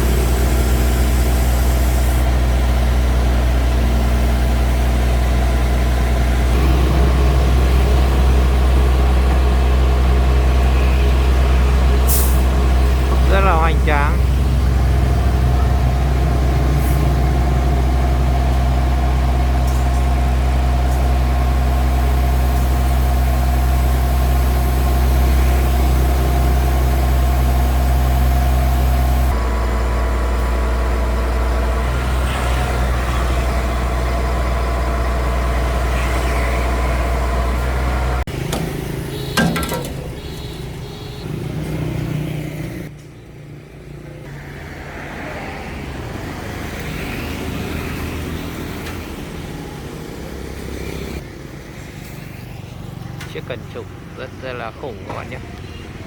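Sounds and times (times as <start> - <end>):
heavy diesel truck engine: 0.0 - 56.0.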